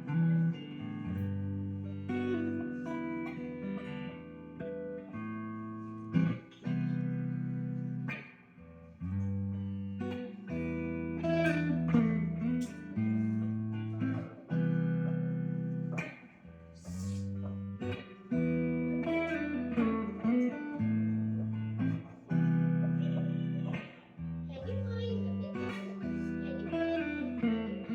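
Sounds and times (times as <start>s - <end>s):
guitar chords with slides: 0.0s - 27.9s.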